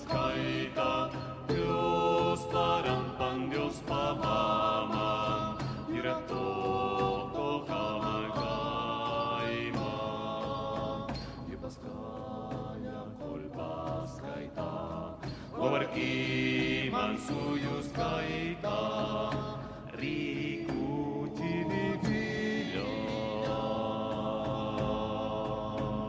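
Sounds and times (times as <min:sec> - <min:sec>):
voices singing chant-like melody: 0:00.0 - 0:26.0.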